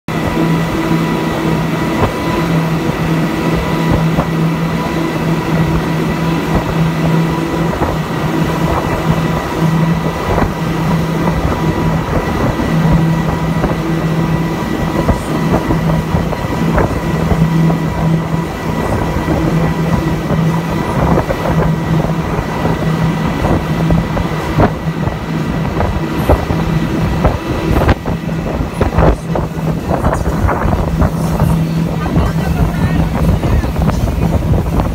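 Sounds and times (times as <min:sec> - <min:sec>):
outboard motors droning: 0:00.0 - 0:34.9
water rushing past hull: 0:00.1 - 0:34.9.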